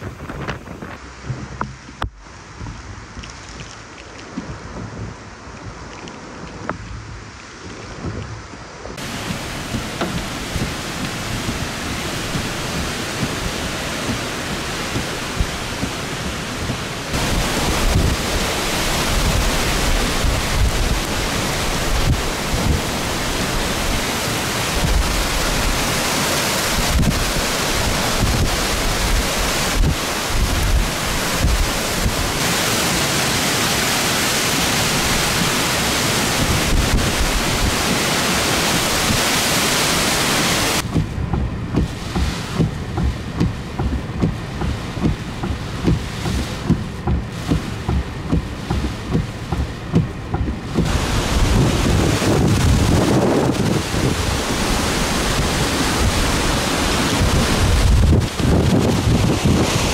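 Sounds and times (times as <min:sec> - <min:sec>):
driving rain: 0:00.0 - 0:59.9
hurricane wind: 0:00.0 - 0:59.9
wind rumbling on microphone: 0:00.0 - 0:59.9.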